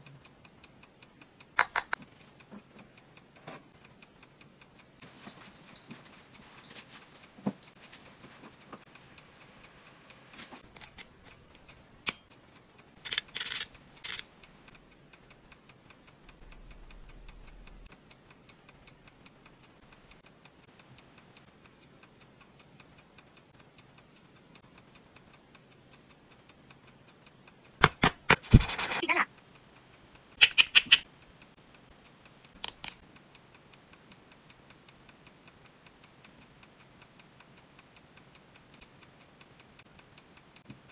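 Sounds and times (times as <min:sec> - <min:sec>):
sharp clicks: 0:00.0 - 0:05.0, 0:10.6 - 0:40.9
steady fast ticking: 0:00.0 - 0:27.8, 0:28.8 - 0:40.9.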